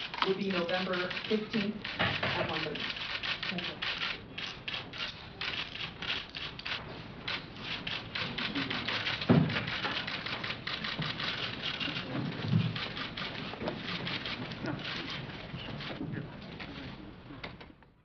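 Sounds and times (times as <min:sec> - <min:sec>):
camera shutters clicking: 0:00.0 - 0:16.0.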